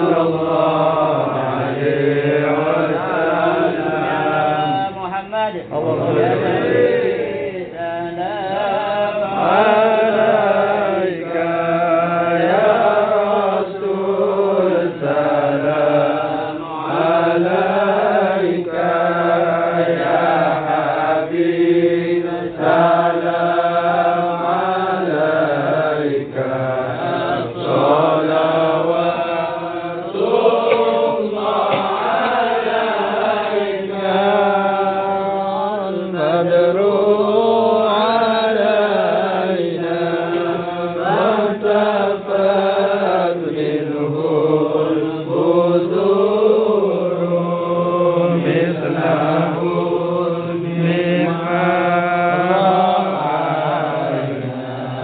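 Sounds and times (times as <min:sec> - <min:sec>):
men chanting together: 0:00.0 - 0:55.0.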